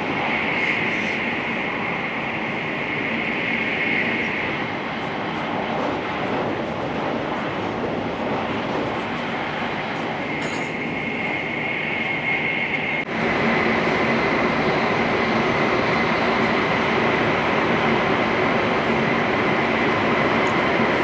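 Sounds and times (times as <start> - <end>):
steady whine: 0.0 - 21.0
train cabin rumble: 0.0 - 21.0.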